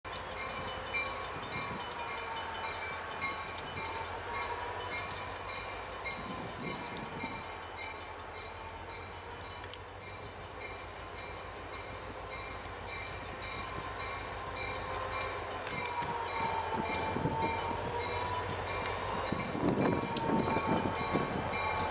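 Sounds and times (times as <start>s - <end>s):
diesel locomotive engine rumble: 0.0s - 21.9s
locomotive bell ringing: 0.1s - 21.9s
wavering engine whine: 0.1s - 21.9s.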